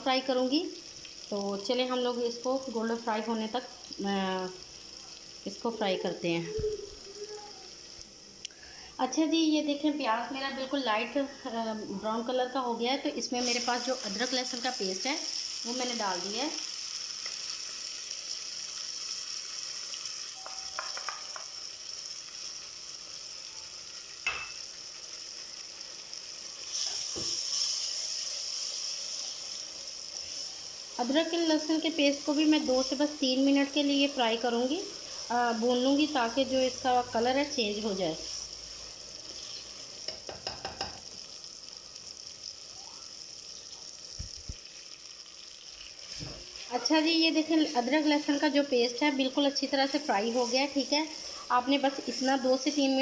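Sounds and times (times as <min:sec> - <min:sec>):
food sizzling in hot oil: 0:00.0 - 0:53.0.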